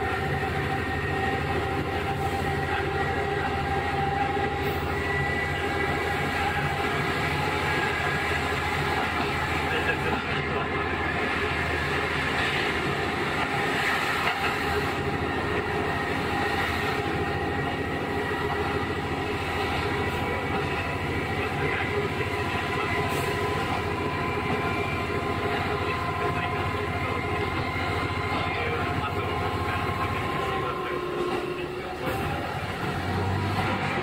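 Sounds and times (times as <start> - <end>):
steady whine: 0.0 - 32.8
diesel engine drone: 0.0 - 34.0
train wheels on rails: 0.0 - 34.0.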